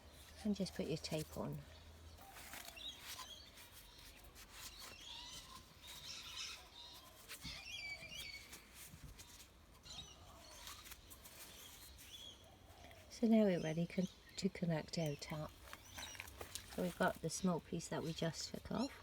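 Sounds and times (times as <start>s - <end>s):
faint birdsong: 0.0s - 19.0s.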